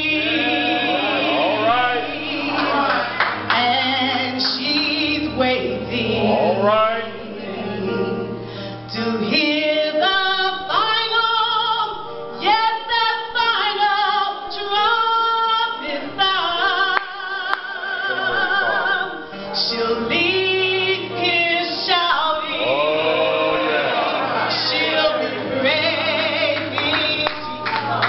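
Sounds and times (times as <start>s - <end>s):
church choir singing: 0.0s - 28.0s.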